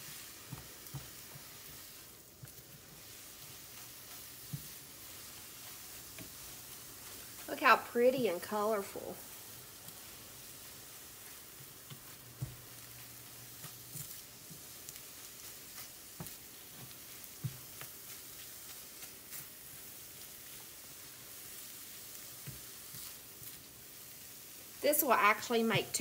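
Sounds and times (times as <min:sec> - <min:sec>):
spatula tapping and scraping pan: 0:00.0 - 0:25.5
eggs sizzling in a skillet: 0:00.0 - 0:26.0.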